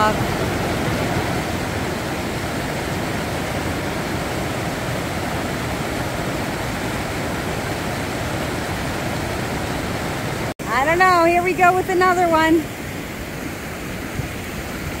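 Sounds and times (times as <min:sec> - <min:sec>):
mountain creek rushing: 0:00.0 - 0:15.0.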